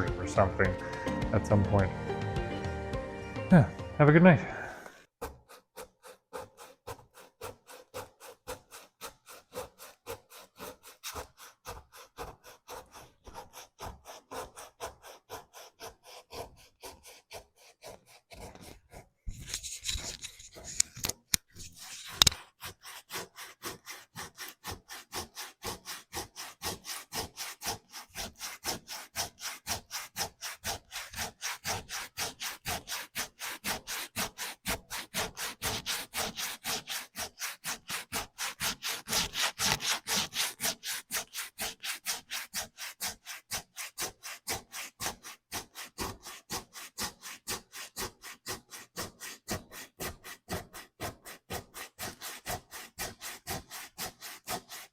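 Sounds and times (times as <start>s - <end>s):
sandpaper rubbing wood: 5.2s - 54.9s.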